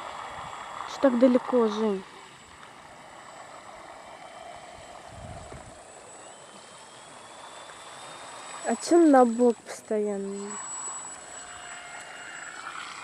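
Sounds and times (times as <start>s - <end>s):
small boat motor whining: 0.0s - 13.0s.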